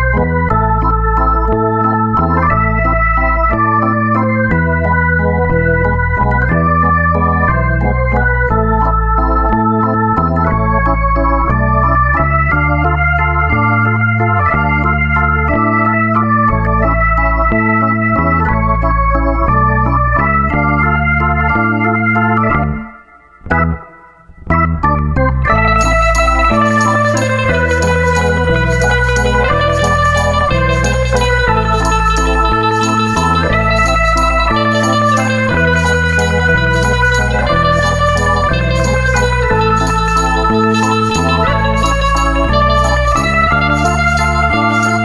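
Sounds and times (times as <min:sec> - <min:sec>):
electronic organ chords: 0:00.0 - 0:45.0.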